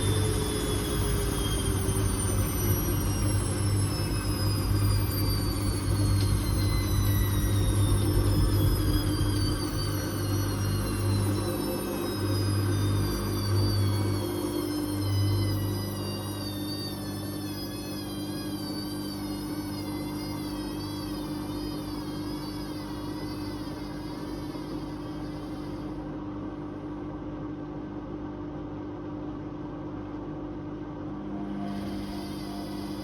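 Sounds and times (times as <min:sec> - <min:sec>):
washing machine motor hum: 0:00.0 - 0:27.4, 0:30.0 - 0:33.0
high wavering whine: 0:00.0 - 0:27.6, 0:30.4 - 0:33.0.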